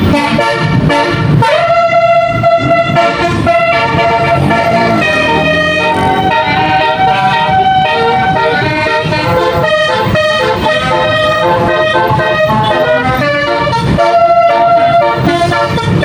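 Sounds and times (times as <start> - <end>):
bus air horn playing melody: 0.0 - 16.0.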